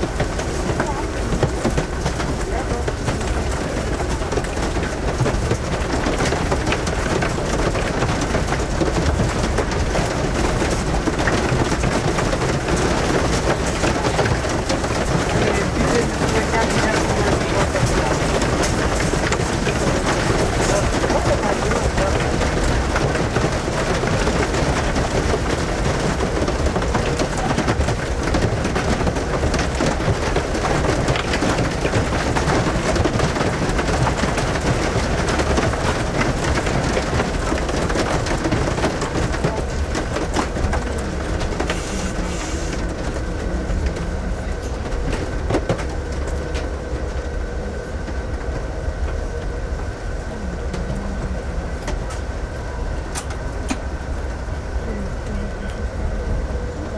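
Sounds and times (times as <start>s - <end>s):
rain and hail hitting window: 0.0s - 56.9s
train car rumbling: 0.0s - 56.9s.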